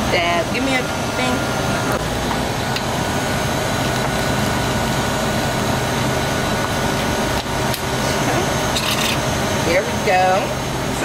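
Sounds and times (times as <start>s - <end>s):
slushie machine humming: 0.0s - 11.0s.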